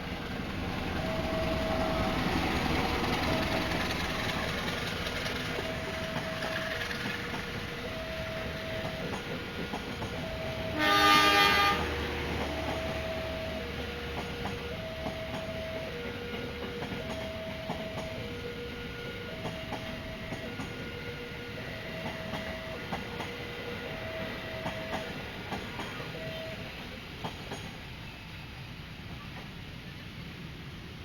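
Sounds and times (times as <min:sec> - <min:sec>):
train wheels clicking over rail joints: 0:00.0 - 0:28.1
train rumble: 0:00.0 - 0:31.0
two-tone crossing alarm: 0:00.2 - 0:26.8.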